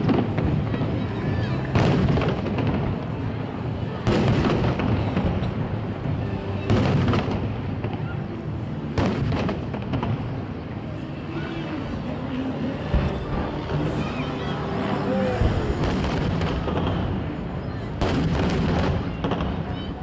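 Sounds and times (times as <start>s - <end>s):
fireworks bangs: 0.0s - 10.8s, 11.8s - 20.0s
continuous rumbling: 0.0s - 20.0s.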